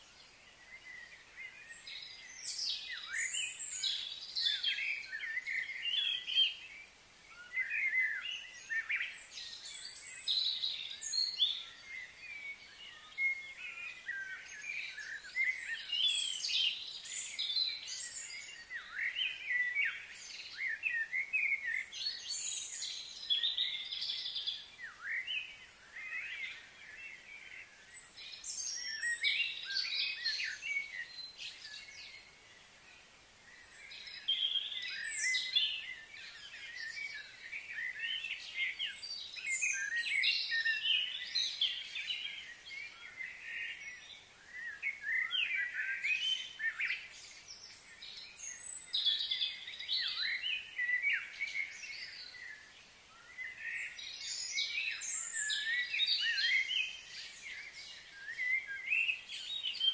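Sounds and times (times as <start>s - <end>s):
steady high hiss: 0.0s - 59.8s
birds chirping and singing: 0.1s - 59.9s.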